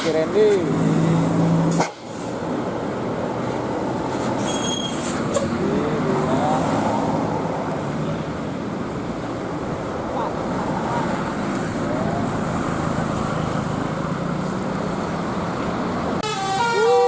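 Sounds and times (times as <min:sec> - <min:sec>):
bus engine running: 0:00.0 - 0:17.0
rumbling road noise: 0:00.0 - 0:17.0.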